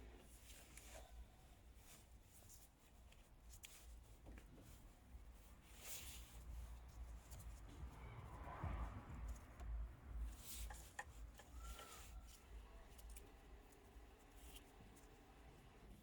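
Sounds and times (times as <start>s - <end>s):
rubbing and handling noise: 0.0s - 16.0s.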